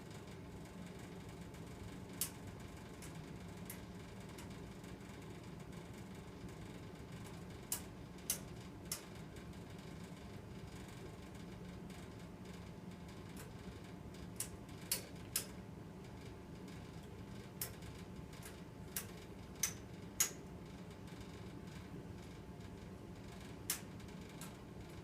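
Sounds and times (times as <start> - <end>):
humidifier humming: 0.0 - 25.0.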